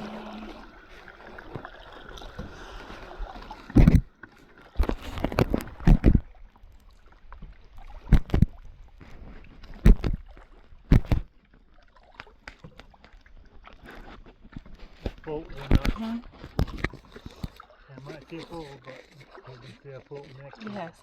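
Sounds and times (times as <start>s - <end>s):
paddle splashes and knocks: 0.0s - 20.9s.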